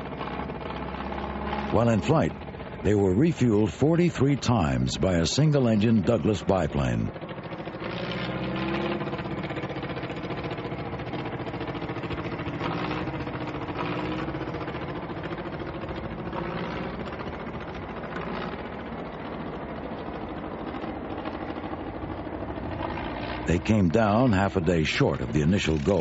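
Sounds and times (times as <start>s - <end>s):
aircraft engines droning: 0.0s - 26.0s.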